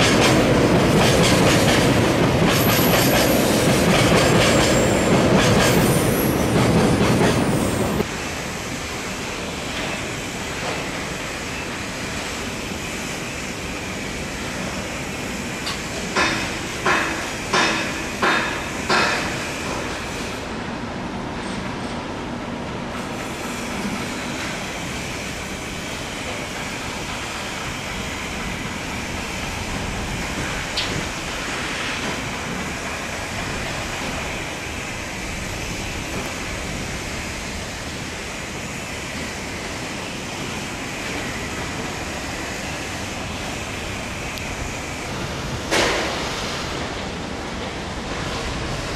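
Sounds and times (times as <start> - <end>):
train wheels on track: 0.0 - 48.9.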